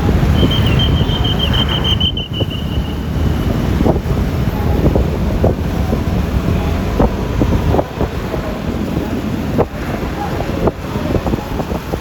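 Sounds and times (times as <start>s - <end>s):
road and traffic rumble: 0.0s - 12.0s
wind buffeting microphone: 0.0s - 12.0s.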